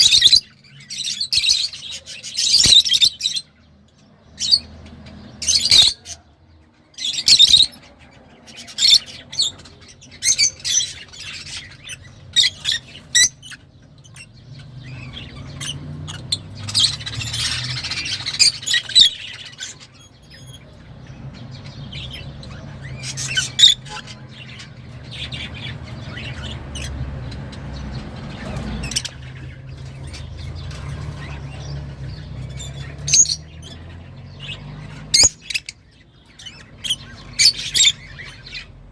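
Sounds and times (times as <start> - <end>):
lovebirds chirping and squawking: 0.0 - 38.9.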